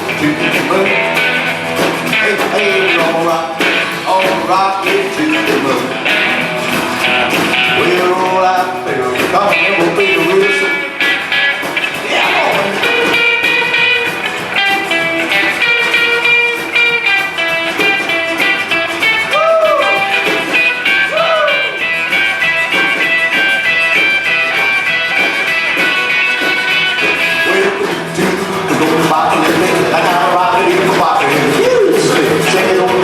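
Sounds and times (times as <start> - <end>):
picked guitar line bending notes: 0.0 - 33.0
rockabilly band playing live: 0.0 - 33.0.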